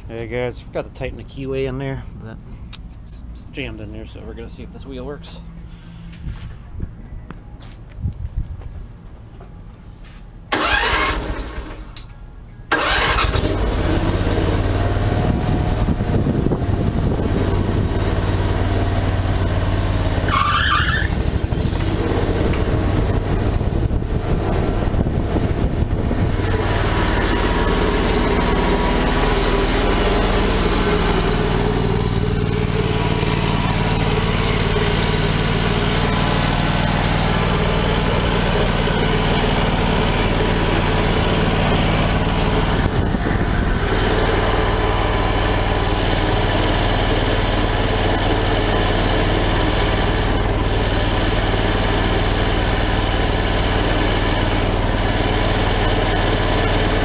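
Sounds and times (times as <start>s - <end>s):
engine starting and running: 10.1s - 57.0s.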